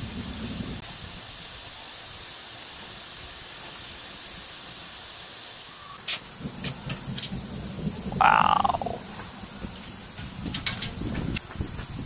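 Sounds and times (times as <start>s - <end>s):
sprinklers hissing: 0.0s - 12.0s.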